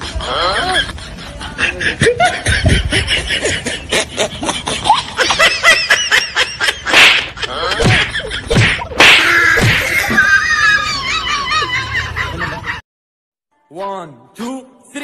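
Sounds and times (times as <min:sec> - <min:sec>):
person laughing and giggling: 0:00.0 - 0:12.8.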